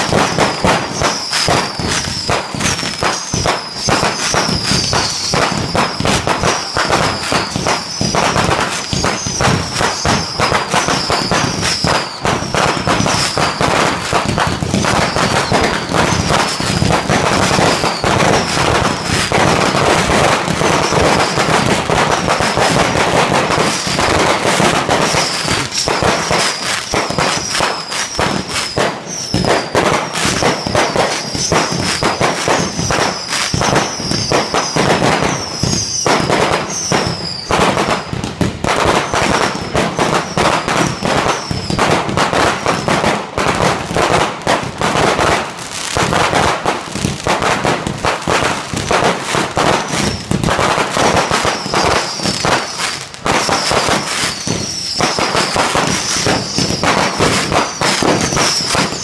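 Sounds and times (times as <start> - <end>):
fireworks bursting and crackling: 0.0 - 59.0
fireworks whistling: 0.0 - 59.0.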